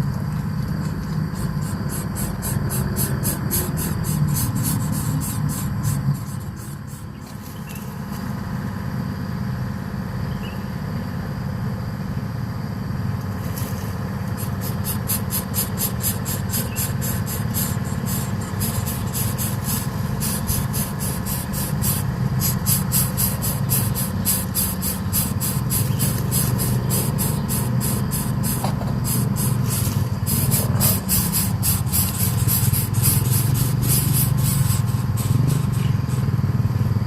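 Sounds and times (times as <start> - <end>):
insects chirping: 0.0 - 37.0
low mechanical hum: 0.0 - 37.0.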